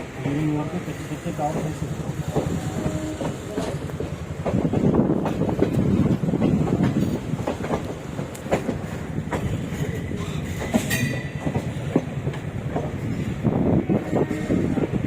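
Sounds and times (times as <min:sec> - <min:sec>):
train coaches rumbling: 0:00.0 - 0:15.0.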